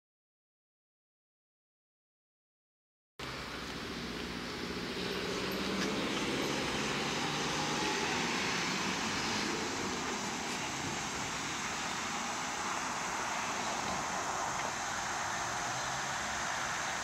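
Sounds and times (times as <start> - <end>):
outdoor street ambience: 3.2 - 17.0.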